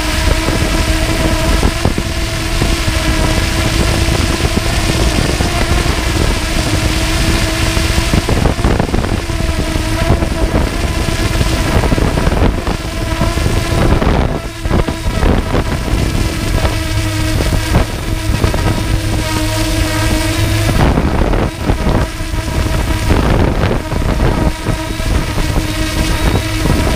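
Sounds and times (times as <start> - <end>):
drone propellers whining: 0.0 - 26.9
wind buffeting microphone: 0.0 - 26.9.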